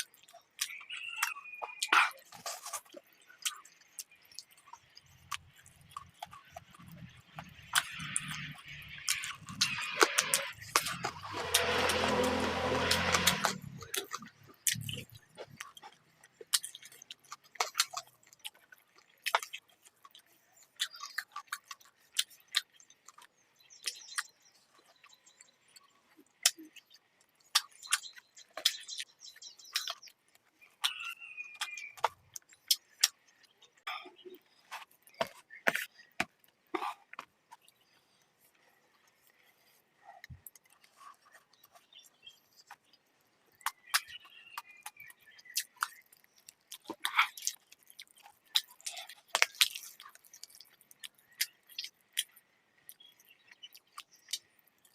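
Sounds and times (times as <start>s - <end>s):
person chewing food: 0.0s - 54.9s.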